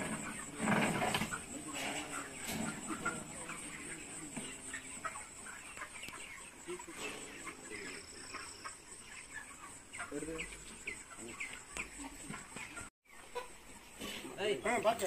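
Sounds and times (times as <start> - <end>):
chickens clucking and chirping: 0.0 - 15.0.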